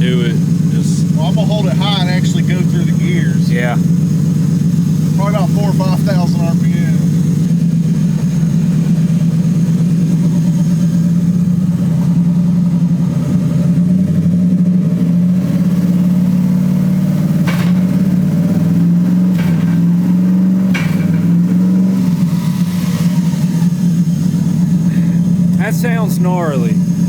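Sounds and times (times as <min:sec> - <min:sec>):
sharp exhaust cracks: 0:00.0 - 0:27.0
v eight engine at high revs: 0:00.0 - 0:27.0.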